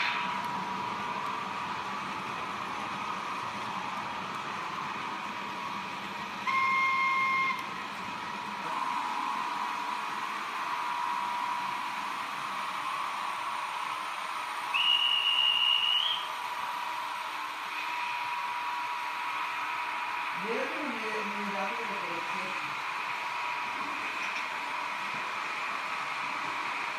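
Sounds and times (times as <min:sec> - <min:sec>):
steady electric whine: 0:00.0 - 0:26.9.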